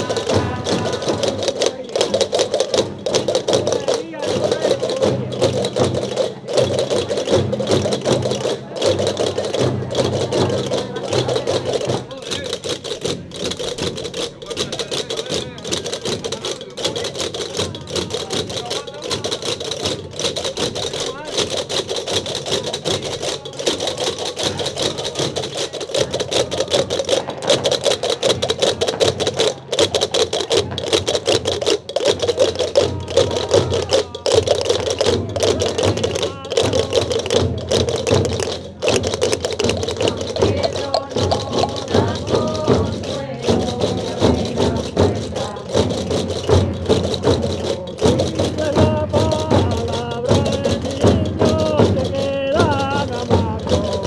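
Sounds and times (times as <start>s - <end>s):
large drums beaten with sticks: 0.0s - 29.8s, 30.5s - 54.0s
wooden castanets clacking: 0.0s - 54.0s.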